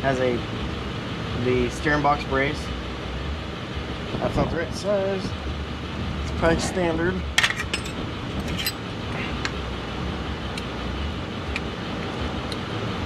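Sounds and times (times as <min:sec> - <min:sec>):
low hum of shop background: 0:00.0 - 0:13.0.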